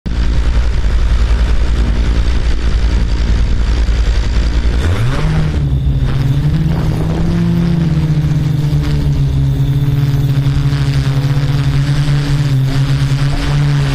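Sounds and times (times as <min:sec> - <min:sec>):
drone motors humming: 0:00.1 - 0:13.9.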